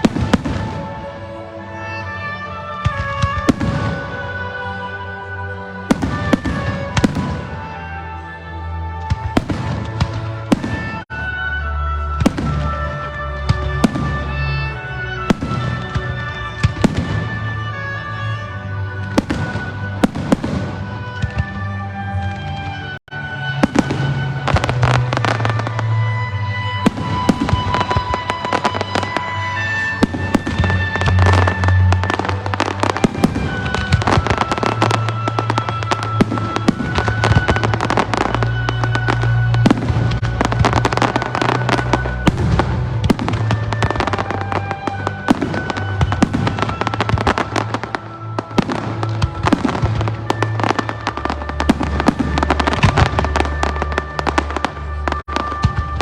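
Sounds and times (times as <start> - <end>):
fireworks bangs and crackles: 0.0 - 8.2, 8.8 - 56.0.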